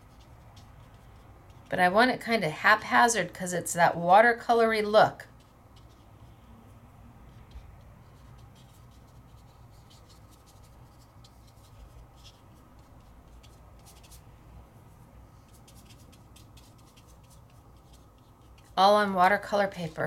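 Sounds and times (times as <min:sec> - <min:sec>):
paintbrush scratching on paper: 0:00.0 - 0:03.3, 0:05.3 - 0:20.0.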